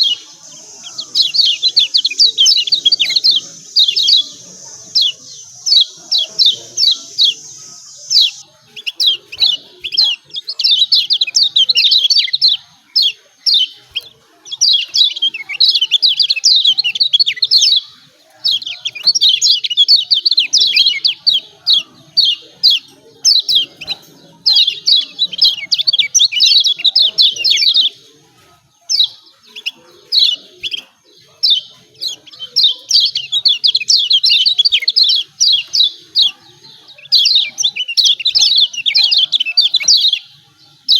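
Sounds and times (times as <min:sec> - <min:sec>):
bird chirping call: 0:00.0 - 0:40.9.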